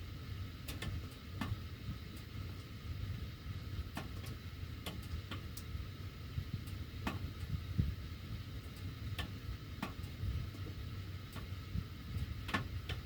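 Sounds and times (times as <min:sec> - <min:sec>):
air rumbling through ducts: 0:00.0 - 0:13.0.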